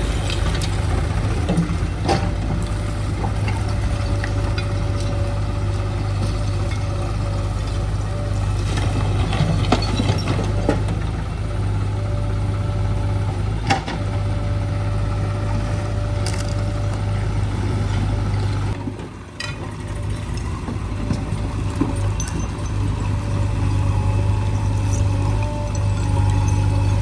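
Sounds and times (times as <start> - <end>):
diesel engine humming: 0.0 - 27.0.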